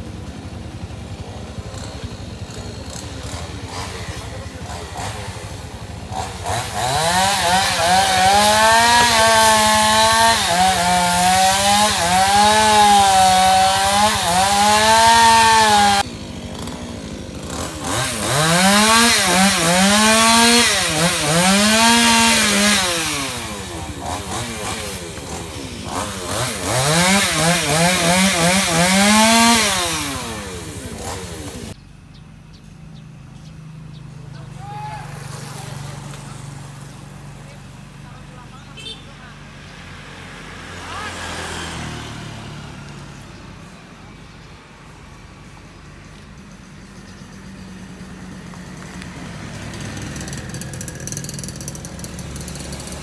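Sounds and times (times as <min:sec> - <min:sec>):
chainsaw cutting wood: 0:00.0 - 0:31.8, 0:34.6 - 0:38.0, 0:40.0 - 0:43.7, 0:47.4 - 0:53.0.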